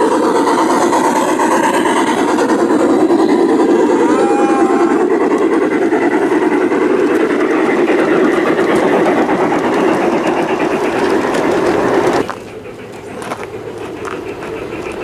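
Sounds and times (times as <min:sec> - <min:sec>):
model train cars rattling: 0:00.0 - 0:15.0.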